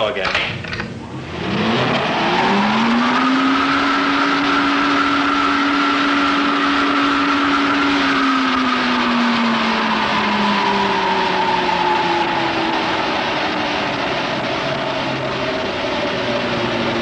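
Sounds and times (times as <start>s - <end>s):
wind tunnel blower whine: 0.0s - 17.0s.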